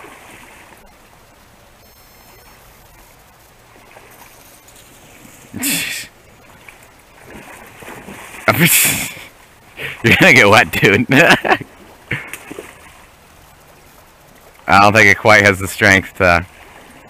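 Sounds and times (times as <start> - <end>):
creek water flowing against ice: 0.0 - 1.8, 2.4 - 17.0.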